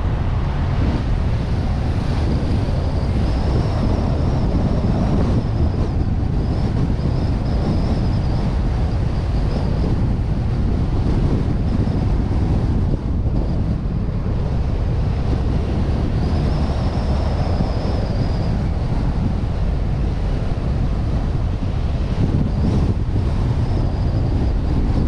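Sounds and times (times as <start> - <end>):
faint high whine: 0.0 - 25.0
road and engine rumble: 0.0 - 25.0
wind buffeting microphone: 0.0 - 25.0.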